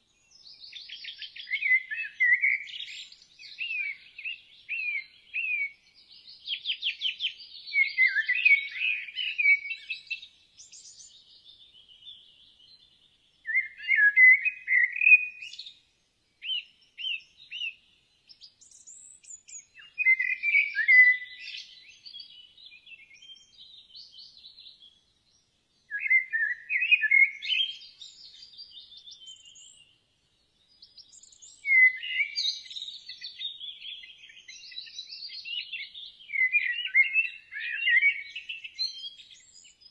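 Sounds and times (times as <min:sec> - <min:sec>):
birds chirping and singing: 0:00.2 - 0:15.8, 0:16.4 - 0:39.9.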